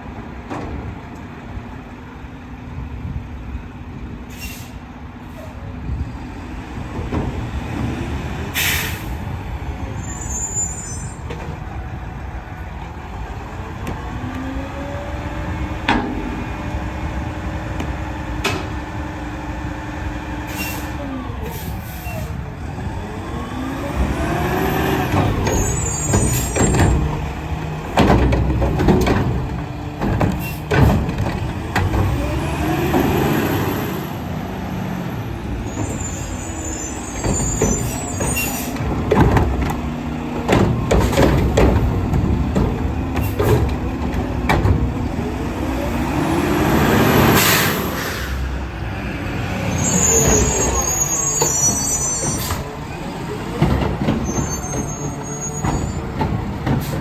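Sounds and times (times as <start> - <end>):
garbage truck engine revving: 6.0 - 57.0.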